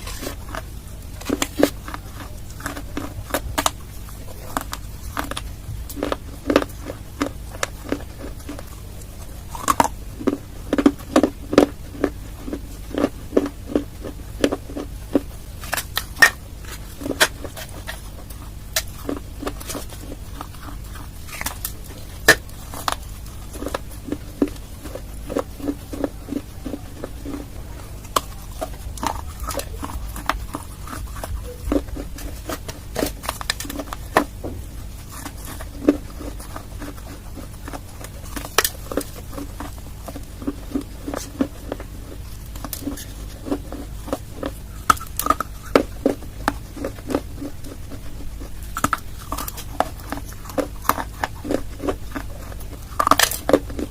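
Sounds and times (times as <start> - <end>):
chewing dry clay crunches: 0.0 - 53.9
steady low hum: 0.0 - 53.9.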